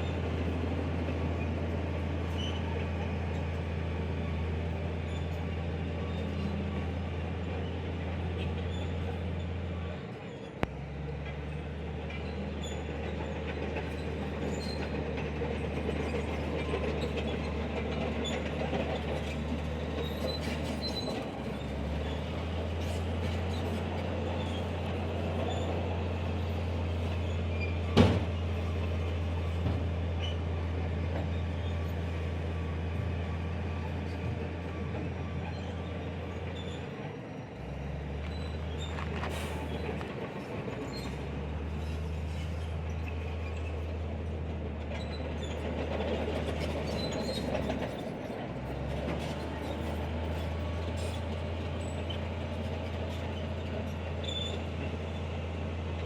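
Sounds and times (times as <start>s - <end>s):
heavy diesel engine drone: 0.0s - 56.0s.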